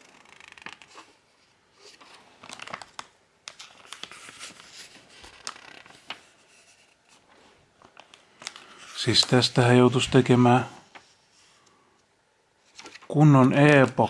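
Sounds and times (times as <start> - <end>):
paper pages rustling: 0.0 - 11.8, 12.6 - 14.0.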